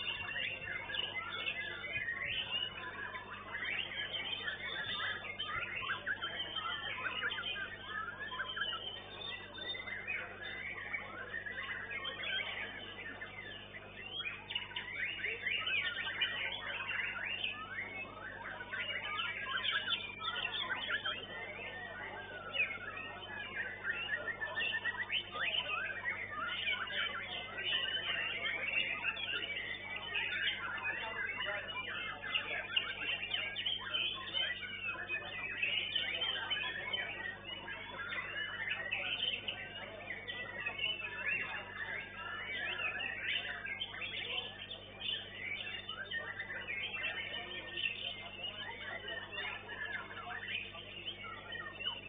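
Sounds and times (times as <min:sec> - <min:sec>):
songbirds whistling: 0:00.0 - 0:52.0.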